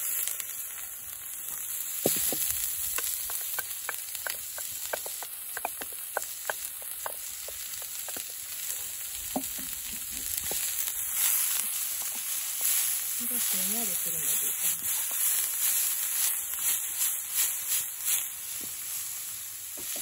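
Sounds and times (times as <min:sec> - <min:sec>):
onion frying in oil: 0:00.0 - 0:20.0.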